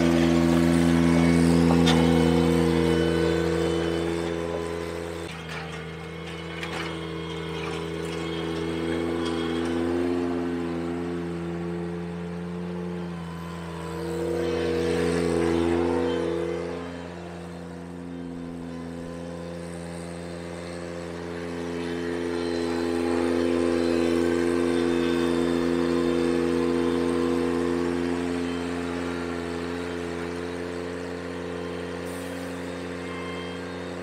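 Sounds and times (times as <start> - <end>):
tractor engine under load: 0.0 - 33.2.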